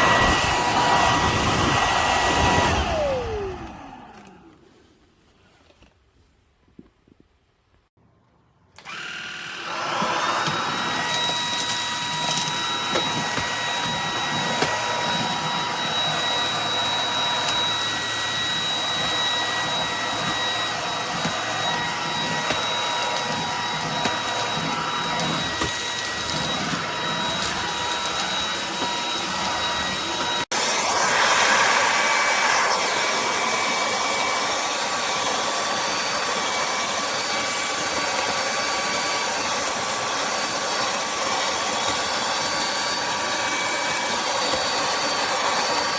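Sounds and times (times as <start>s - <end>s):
stick vacuum motor whining: 0.0s - 4.6s, 8.8s - 45.9s.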